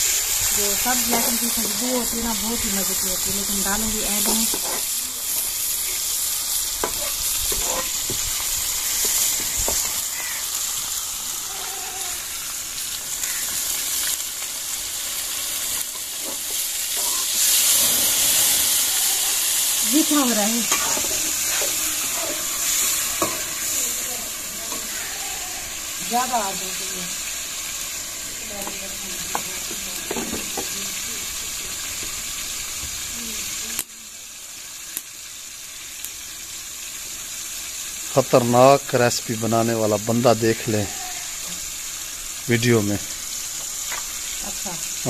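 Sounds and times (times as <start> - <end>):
curry sizzling in pan: 0.0 - 45.0.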